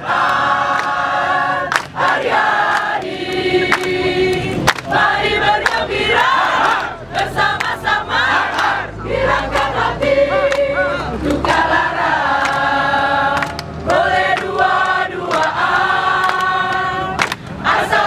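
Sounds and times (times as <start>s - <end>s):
crowd singing together: 0.0s - 18.0s.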